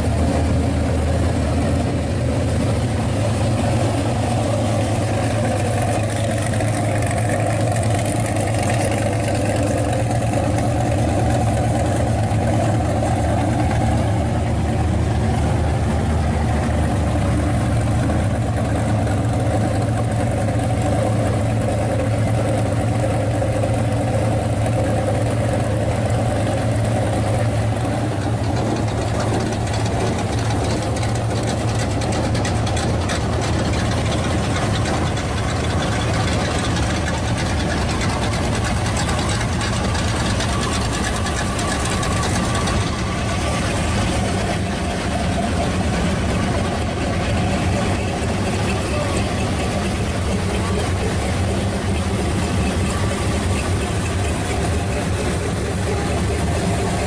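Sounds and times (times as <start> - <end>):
engine idling with low rumble: 0.0 - 57.0.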